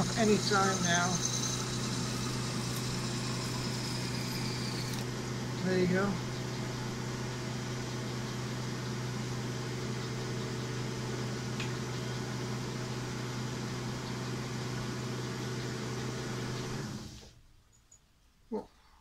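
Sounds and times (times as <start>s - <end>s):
lathe motor hum: 0.0s - 17.2s.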